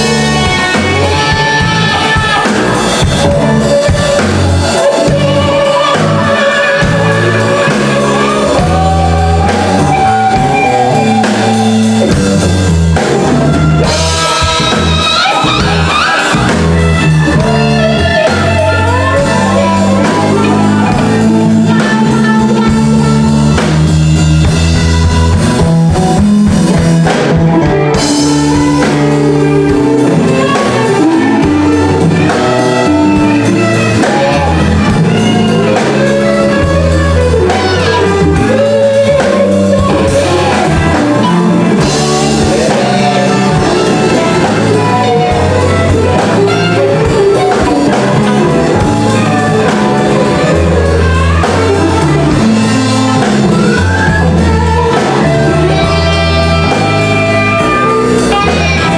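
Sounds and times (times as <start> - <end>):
drum kit: 0.0 - 58.9
electric bass: 0.0 - 58.9
electric guitar: 0.0 - 58.9.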